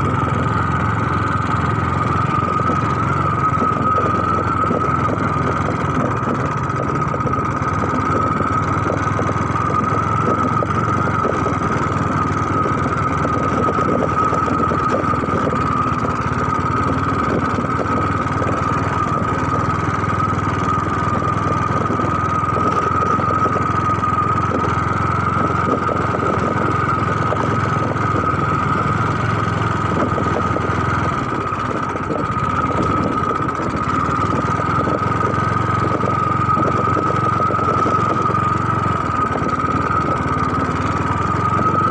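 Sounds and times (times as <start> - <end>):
motor running with high whine: 0.0 - 41.9.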